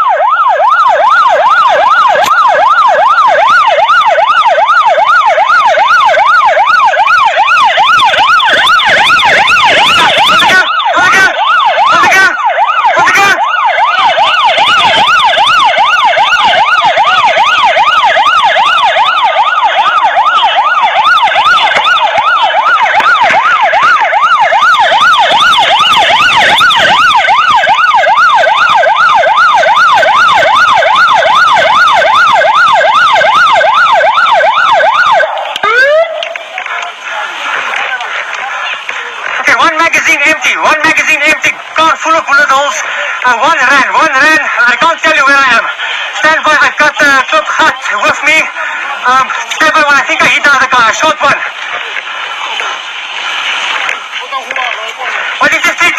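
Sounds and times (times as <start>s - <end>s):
motorcycle siren yelping: 0.0s - 55.9s.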